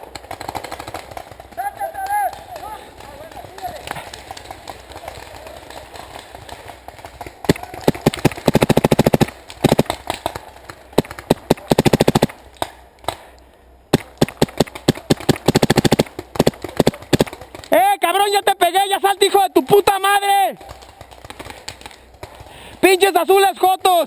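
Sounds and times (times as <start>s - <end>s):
paintball markers firing: 0.0s - 17.8s, 20.6s - 22.9s.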